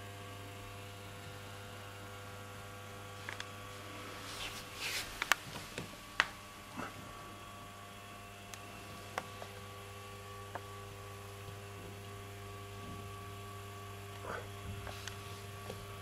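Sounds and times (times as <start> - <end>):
jukebox mains hum: 0.0 - 16.0.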